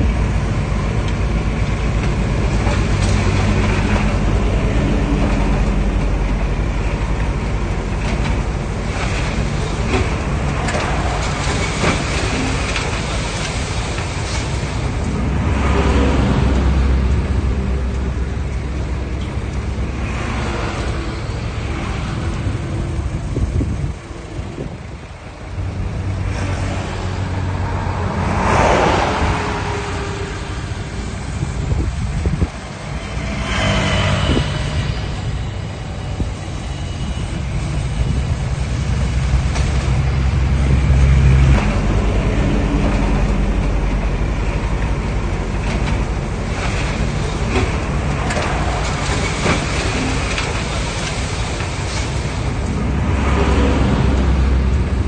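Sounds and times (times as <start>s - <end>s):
diesel machinery engine rumble: 0.0s - 55.0s
rushes of noise: 0.0s - 55.0s.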